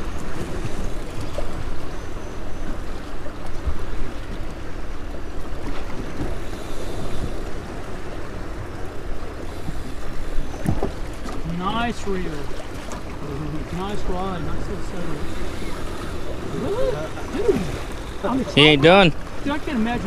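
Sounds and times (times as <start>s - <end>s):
waves lapping against boat hull: 0.0s - 20.0s.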